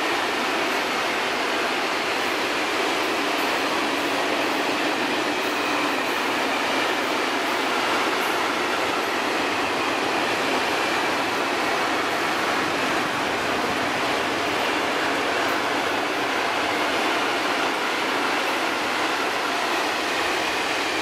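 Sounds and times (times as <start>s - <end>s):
freight train rolling on rails: 0.0s - 21.0s.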